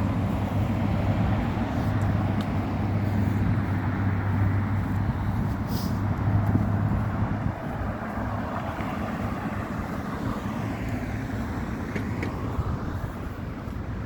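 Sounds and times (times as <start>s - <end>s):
passing cars rushing: 0.0s - 14.0s.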